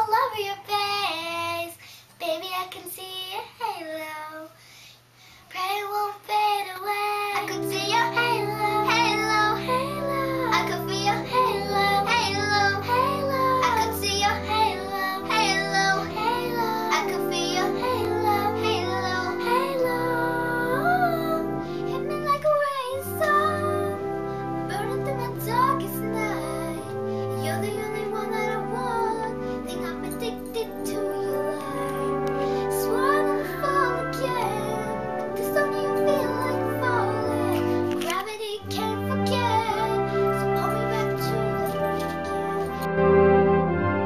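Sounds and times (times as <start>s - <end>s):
girl singing: 0.0s - 4.7s, 5.3s - 42.9s.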